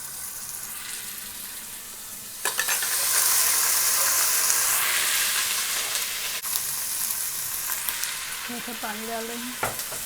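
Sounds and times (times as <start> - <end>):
hot oil sizzling in a pan: 0.0 - 10.0.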